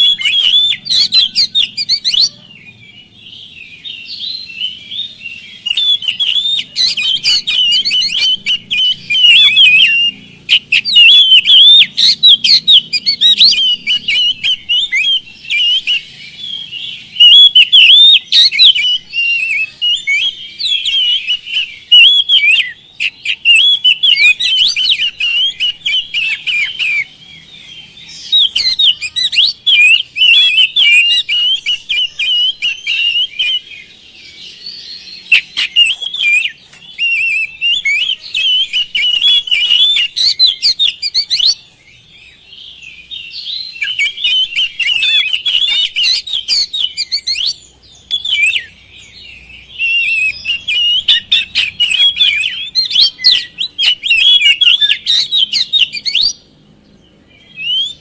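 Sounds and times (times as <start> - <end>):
songbird singing whistled phrases: 0.0 - 58.0.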